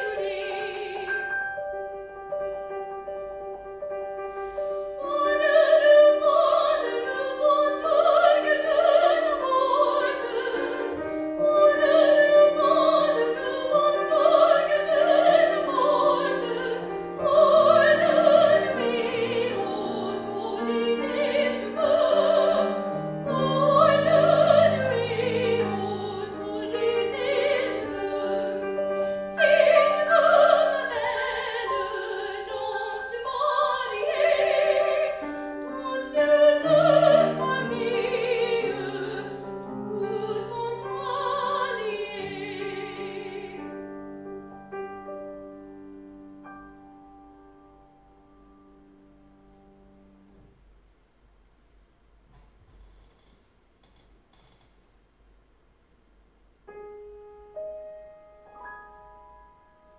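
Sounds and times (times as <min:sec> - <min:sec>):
piano accompaniment: 0:00.0 - 0:50.6, 0:56.7 - 0:59.9.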